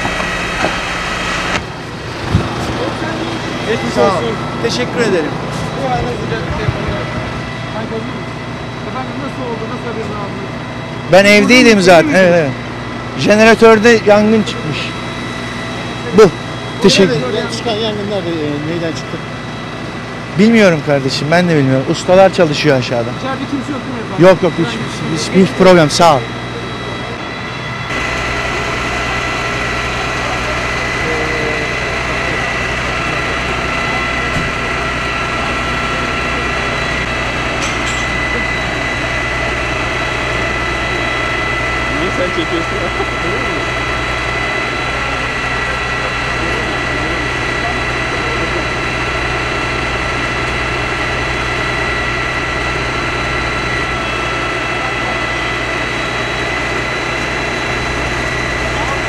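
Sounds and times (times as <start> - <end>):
fire engine running: 0.0 - 59.0
steady high whine: 0.0 - 59.0.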